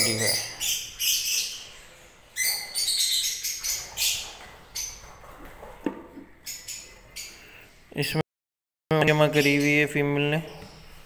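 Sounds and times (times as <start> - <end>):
lovebirds chirping: 0.0 - 8.2, 9.0 - 11.0.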